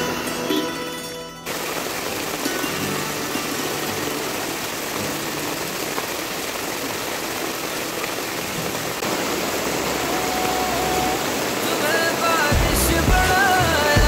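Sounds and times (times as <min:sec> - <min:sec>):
heavy rain on pavement: 0:01.5 - 0:14.0.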